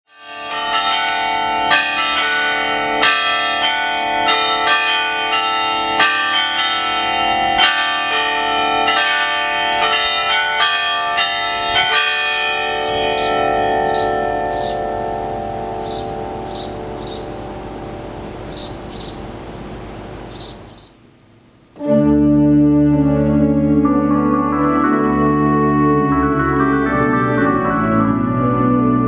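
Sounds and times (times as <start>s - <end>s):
church bells ringing: 0.1s - 20.8s, 21.8s - 29.0s.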